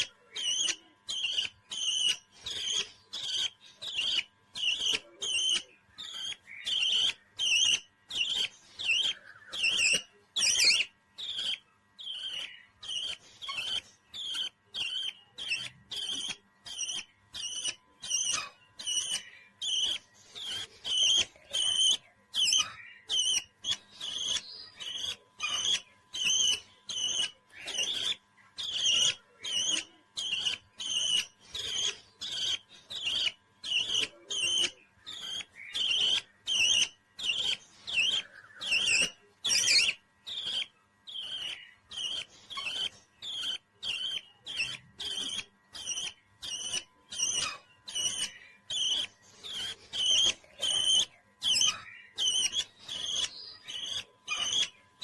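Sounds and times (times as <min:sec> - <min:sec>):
parrot chirping: 0:00.0 - 0:55.0.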